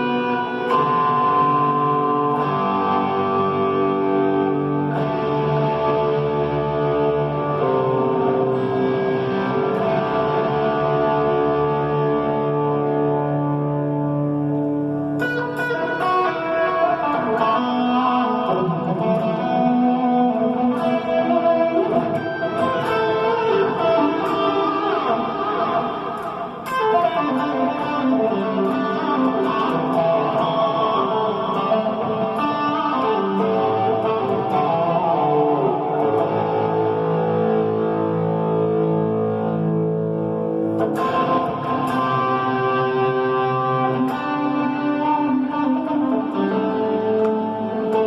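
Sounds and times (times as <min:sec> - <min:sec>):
electric guitar playing: 0:00.0 - 0:48.0.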